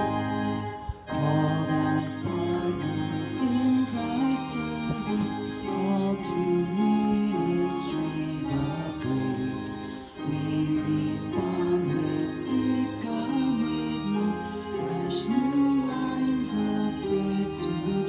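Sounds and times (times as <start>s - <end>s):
organ: 0.0s - 18.0s
voices singing a hymn: 0.0s - 18.0s.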